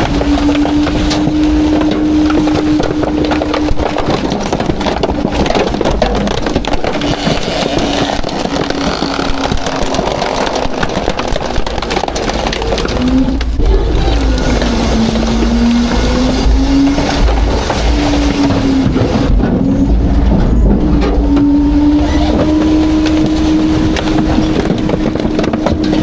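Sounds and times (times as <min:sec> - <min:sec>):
trash crunching in compactor: 0:00.0 - 0:26.0
truck whine: 0:00.0 - 0:26.0.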